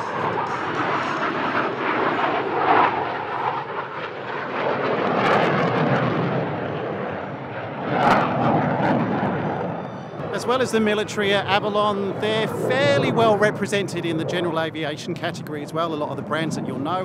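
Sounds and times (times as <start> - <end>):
fighter jets passing overhead: 0.0 - 17.0.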